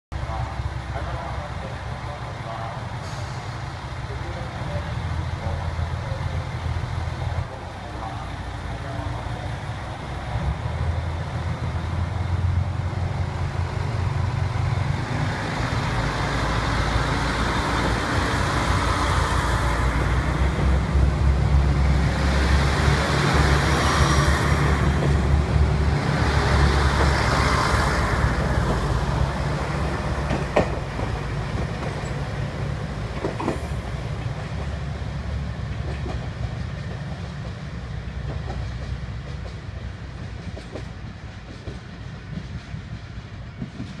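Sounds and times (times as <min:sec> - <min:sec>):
diesel railcar engines droning: 0:00.1 - 0:44.0.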